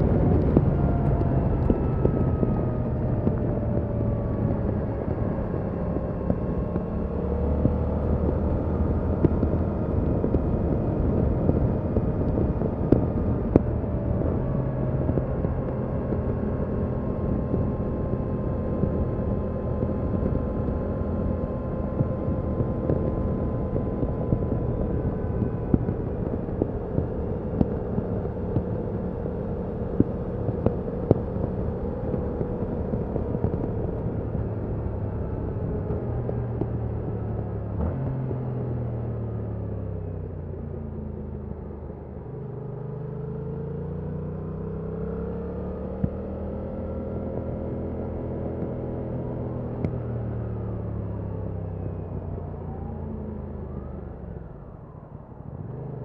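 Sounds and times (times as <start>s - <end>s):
motorcycle engine running: 0.0s - 54.4s
road and wind noise: 0.0s - 56.0s.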